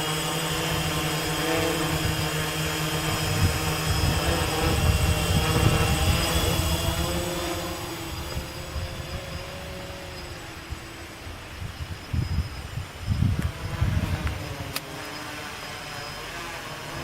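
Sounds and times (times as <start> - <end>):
wind buffeting microphone: 0.0 - 15.0
quadcopter propellers whirring: 0.0 - 17.0.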